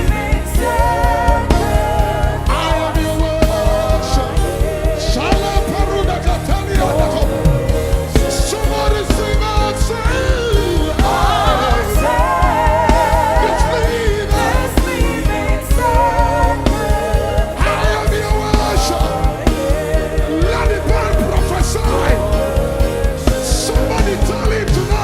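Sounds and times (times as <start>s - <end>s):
band playing a steady beat: 0.0s - 25.0s.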